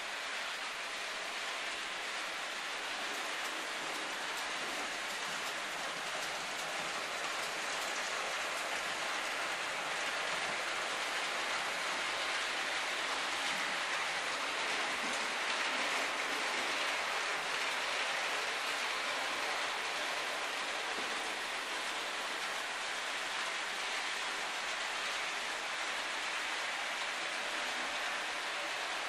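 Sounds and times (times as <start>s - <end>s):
model trains rolling on track: 0.0s - 29.0s.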